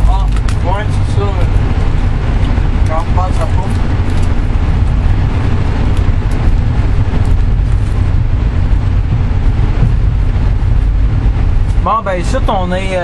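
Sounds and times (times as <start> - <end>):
train car rumbling on track: 0.0 - 13.0.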